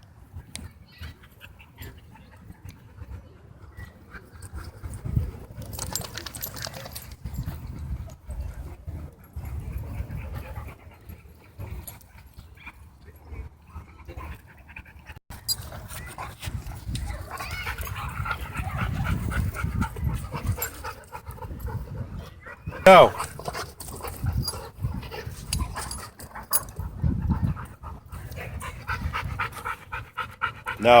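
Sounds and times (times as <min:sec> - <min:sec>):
dogs panting: 0:01.2 - 0:31.0.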